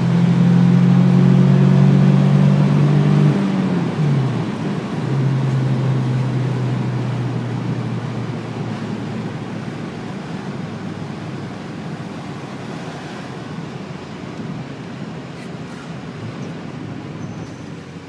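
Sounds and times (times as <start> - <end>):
faint car engine: 0.0 - 18.0
road and wind noise in car: 0.0 - 18.0.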